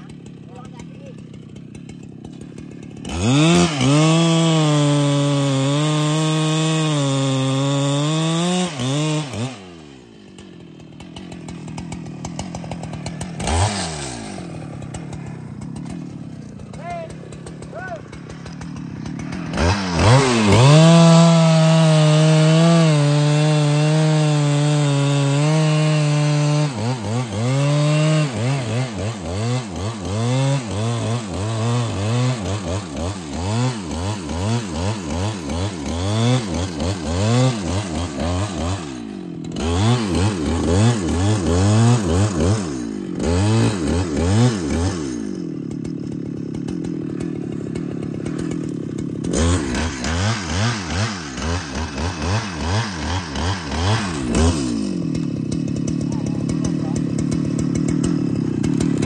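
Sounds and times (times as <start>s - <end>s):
chainsaw revving and cutting wood: 0.0s - 59.0s.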